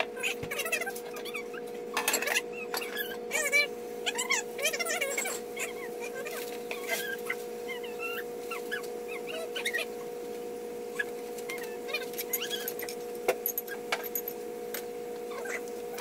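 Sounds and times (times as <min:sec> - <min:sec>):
electrical hum: 0:00.0 - 0:16.0
pet whining: 0:00.2 - 0:10.2, 0:10.9 - 0:14.3, 0:15.3 - 0:16.0.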